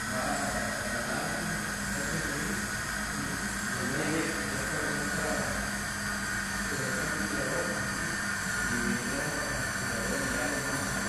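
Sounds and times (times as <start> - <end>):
motor hum and hiss: 0.0 - 11.0.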